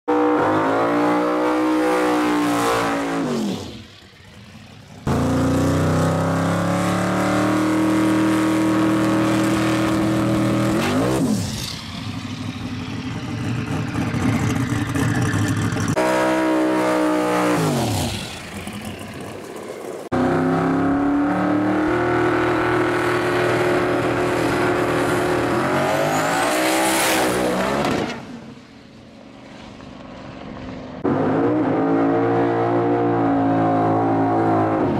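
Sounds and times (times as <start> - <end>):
drag car engine revving: 0.1 - 28.3.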